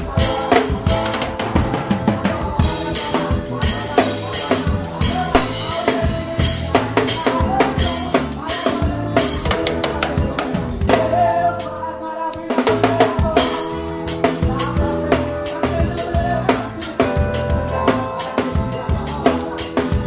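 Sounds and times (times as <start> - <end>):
drum kit: 0.0 - 11.8, 12.4 - 20.0
band playing worship song: 0.0 - 20.0
held keyboard or guitar chords: 0.0 - 20.0.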